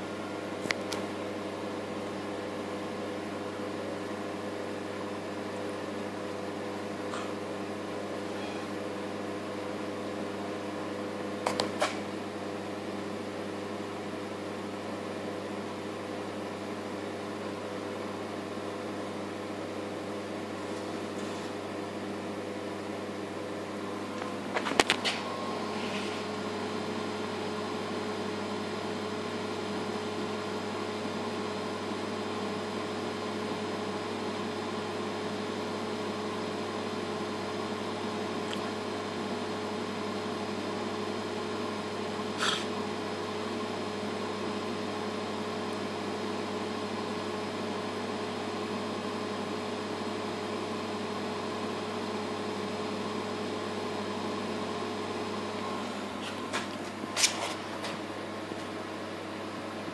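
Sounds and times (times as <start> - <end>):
machine hum with constant tones: 0.0 - 59.9.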